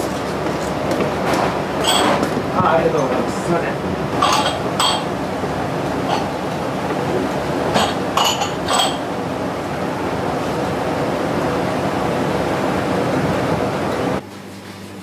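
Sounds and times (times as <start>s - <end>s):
steady background noise: 0.0s - 14.2s.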